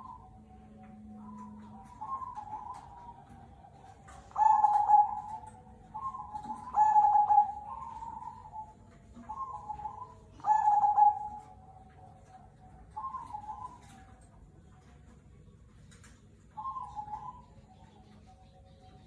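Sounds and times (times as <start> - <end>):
dove cooing: 0.0 - 15.0, 16.5 - 19.0.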